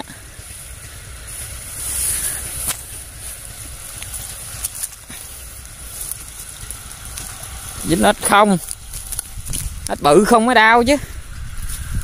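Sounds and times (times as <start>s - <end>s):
night insects chirring: 0.0s - 12.0s
rustling: 0.0s - 12.0s.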